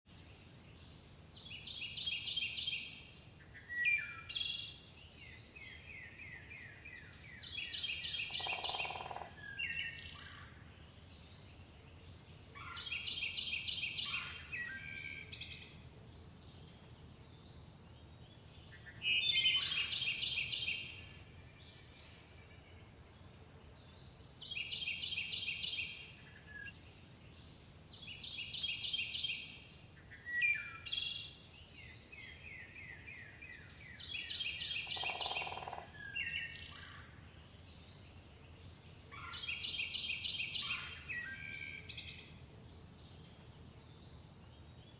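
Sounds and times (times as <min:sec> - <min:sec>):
songbirds trilling: 0:00.4 - 0:22.9, 0:23.7 - 0:44.9.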